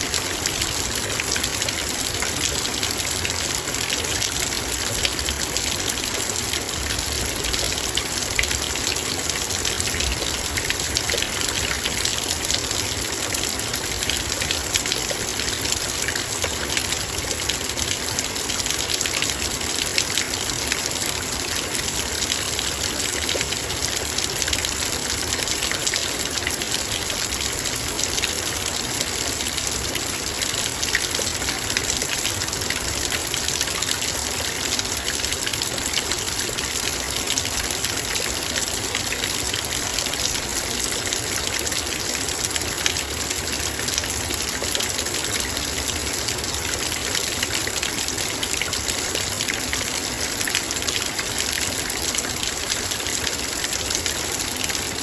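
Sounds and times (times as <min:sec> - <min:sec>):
rain drops on metal bowl: 0:00.0 - 0:55.0
rain hiss: 0:00.0 - 0:55.0.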